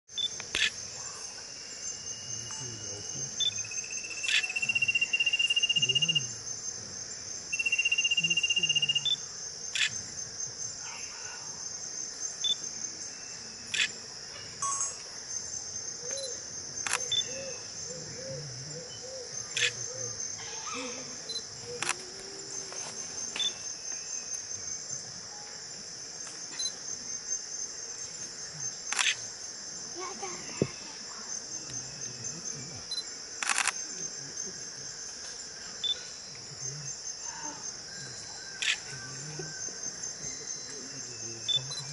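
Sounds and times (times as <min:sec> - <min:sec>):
forest insects chorus: 0:00.1 - 0:41.9.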